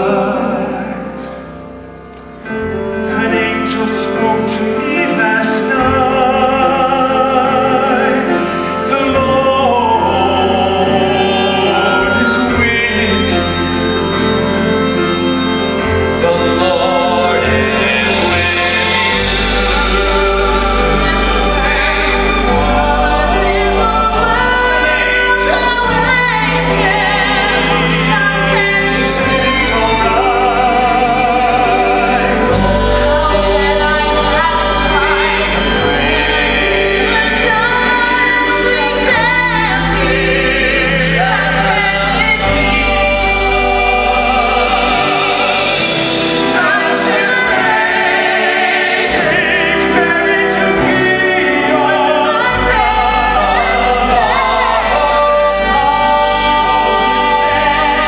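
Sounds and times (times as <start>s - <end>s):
operatic singing with vibrato: 0.0s - 58.0s
orchestra playing: 0.0s - 58.0s.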